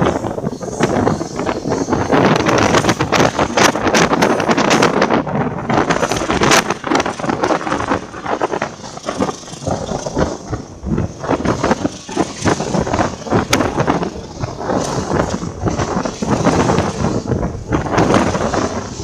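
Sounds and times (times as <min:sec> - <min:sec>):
train running noise and wind: 0:00.0 - 0:19.0
wheels clacking and rattling: 0:00.0 - 0:19.0.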